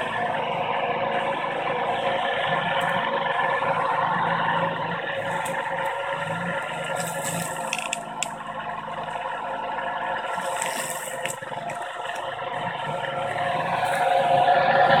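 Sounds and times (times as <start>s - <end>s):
electric motors whirring: 1.9s - 15.0s.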